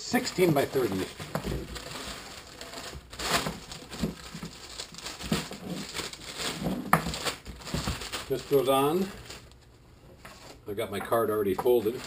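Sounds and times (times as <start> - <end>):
plastic bag rustling and crinkling: 0.1 - 9.7, 11.4 - 12.0.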